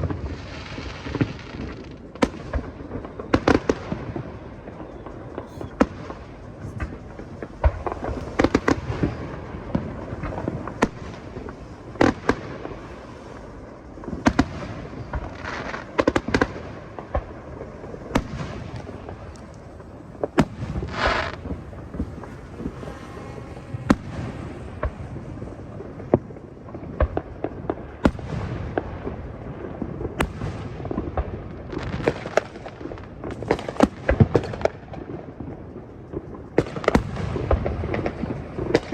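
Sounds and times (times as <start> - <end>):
fireworks hissing burst: 0.0 - 34.1
fireworks bangs and pops: 0.0 - 38.9.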